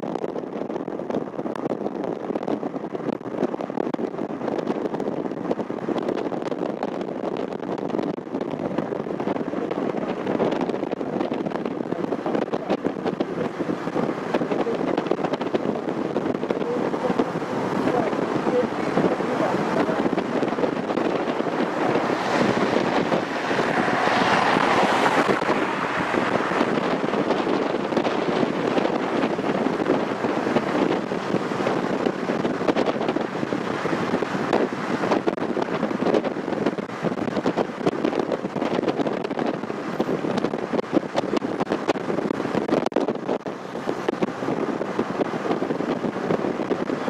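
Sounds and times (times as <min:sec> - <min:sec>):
car road noise rushing: 0:00.0 - 0:47.0
wind buffeting microphone: 0:00.0 - 0:47.0.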